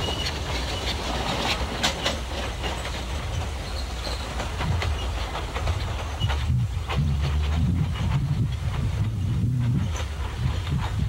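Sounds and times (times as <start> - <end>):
train rumbling along track: 0.0 - 11.0
wheels clicking on rails: 0.0 - 11.0.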